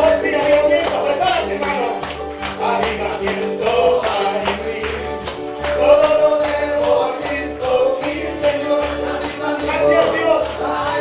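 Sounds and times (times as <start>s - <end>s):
gospel worship music with singing: 0.0s - 11.0s.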